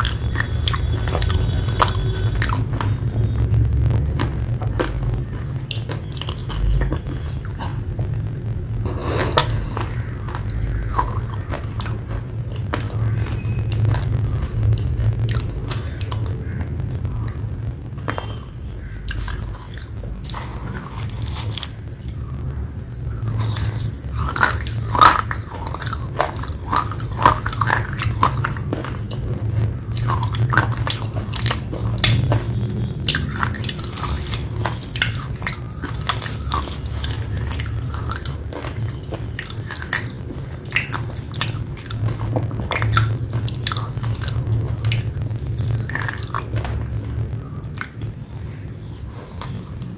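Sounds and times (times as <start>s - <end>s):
chewing wet clay paste: 0.0s - 3.4s, 4.0s - 7.9s, 9.0s - 17.4s, 18.0s - 49.9s
steady low hum: 0.0s - 49.9s.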